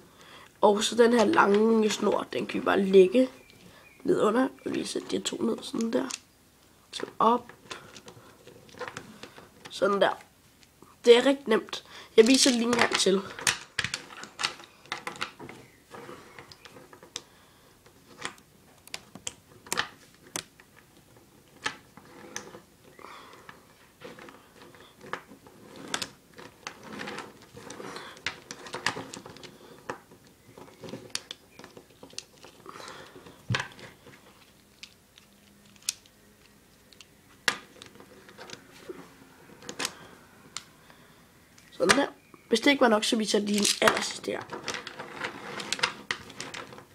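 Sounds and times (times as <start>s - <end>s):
wooden blocks clicking and knocking: 0.2s - 6.3s, 6.9s - 40.7s, 41.6s - 42.6s, 43.2s - 46.9s.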